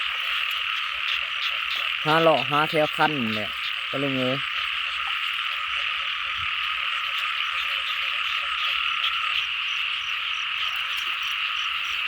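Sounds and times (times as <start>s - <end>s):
chorus of frogs calling: 0.0s - 12.0s
high insect chirp: 0.0s - 12.0s.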